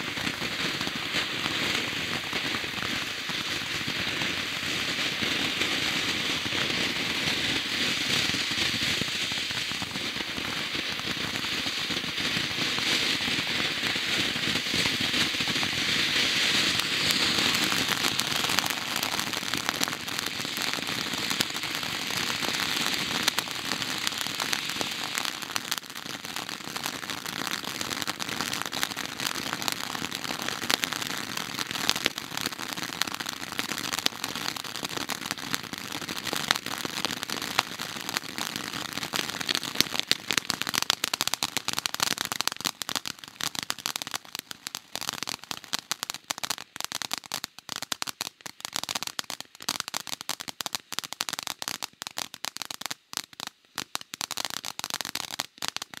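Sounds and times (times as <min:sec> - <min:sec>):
firework crackling: 0:00.0 - 0:56.0
firework sparks hissing: 0:00.0 - 0:56.0.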